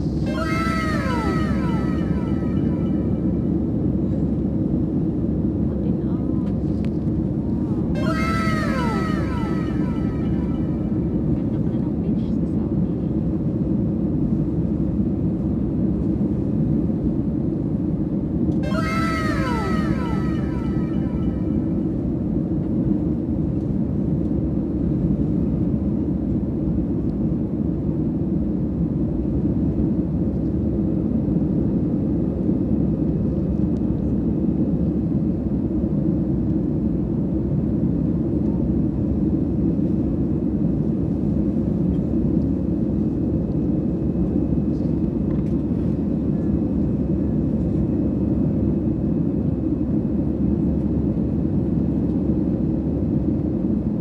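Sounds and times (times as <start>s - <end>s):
jet cabin engine drone: 0.0s - 54.0s.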